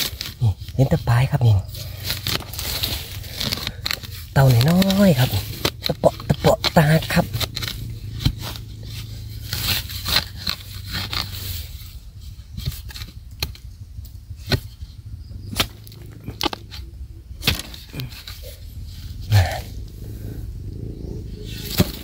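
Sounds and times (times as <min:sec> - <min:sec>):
digging blade scraping soil: 0:00.0 - 0:20.4, 0:21.3 - 0:22.0.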